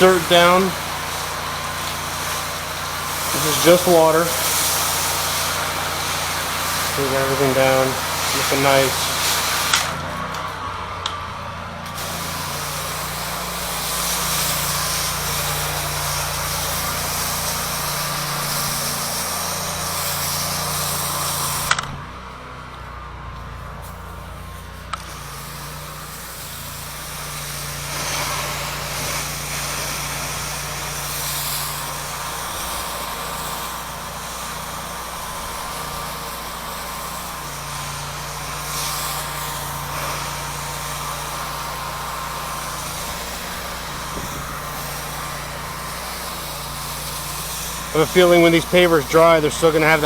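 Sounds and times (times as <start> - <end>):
water spray hiss: 0.0 - 11.2, 11.8 - 22.0, 23.6 - 50.0
pressure washer engine running: 0.0 - 50.0.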